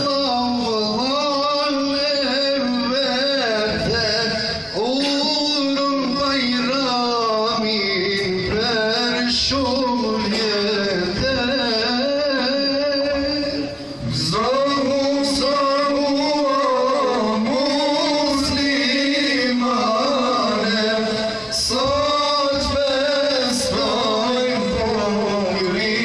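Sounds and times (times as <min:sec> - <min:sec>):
men singing a devotional hymn: 0:00.0 - 0:26.0.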